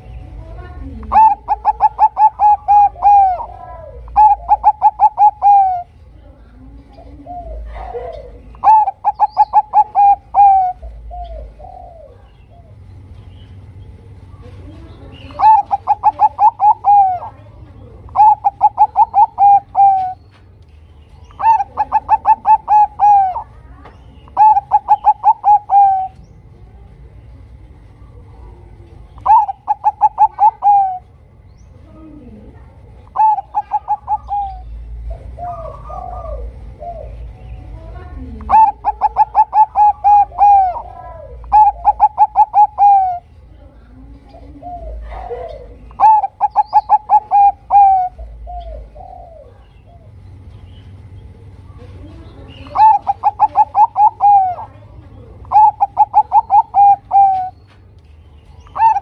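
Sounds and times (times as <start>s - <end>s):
dove cooing: 0.4s - 13.0s, 14.0s - 20.4s, 21.1s - 26.4s, 28.1s - 57.8s, 58.5s - 59.0s.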